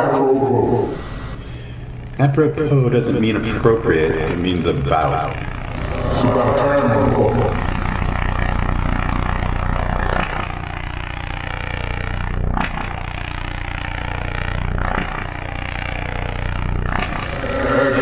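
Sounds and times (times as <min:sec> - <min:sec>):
rattling low drone: 0:00.0 - 0:18.0.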